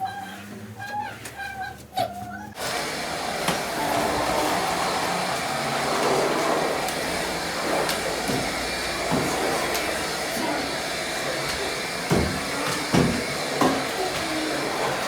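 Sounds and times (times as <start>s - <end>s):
vacuum cleaner motor running: 2.6s - 15.0s.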